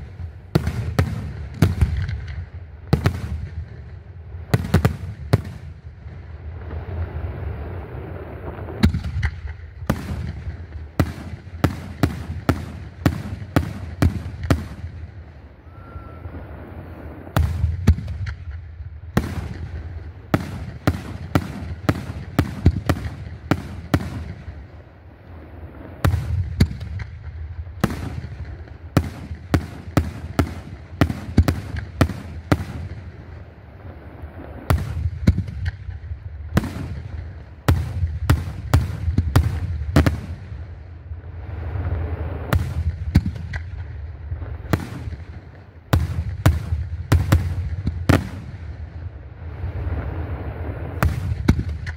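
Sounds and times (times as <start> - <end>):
fireworks bursting with sharp bangs: 0.0 - 51.9.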